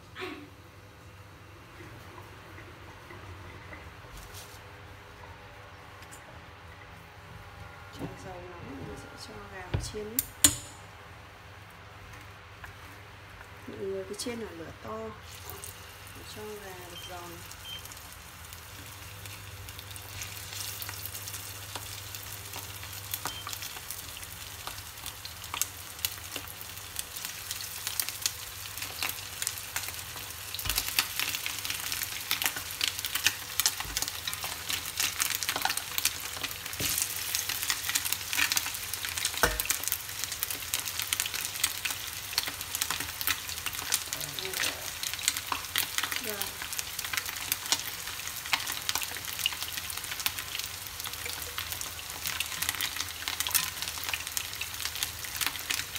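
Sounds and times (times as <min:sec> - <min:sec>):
wings sizzling in hot oil: 0:10.0 - 0:55.9.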